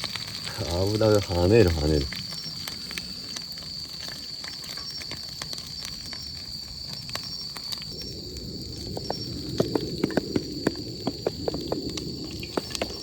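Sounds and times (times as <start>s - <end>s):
wings sizzling in hot oil: 0.0s - 13.0s.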